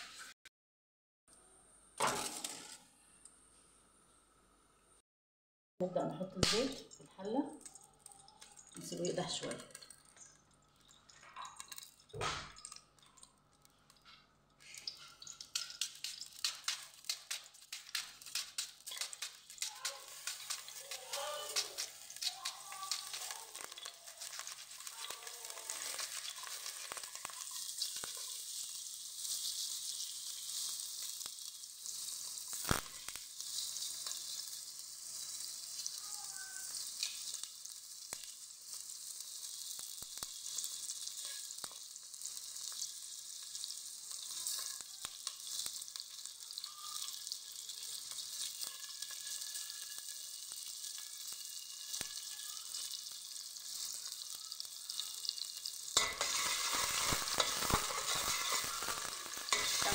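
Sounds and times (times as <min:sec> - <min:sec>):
hot oil sizzling in a pot: 0:00.0 - 0:00.4, 0:01.6 - 0:04.0, 0:05.9 - 0:59.9.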